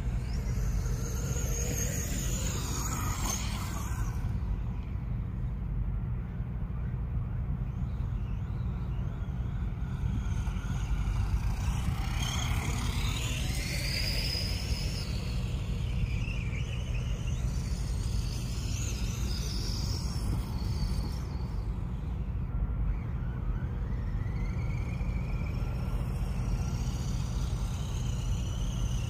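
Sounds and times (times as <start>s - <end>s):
toy truck motor whine: 0.0s - 4.9s, 8.3s - 29.0s.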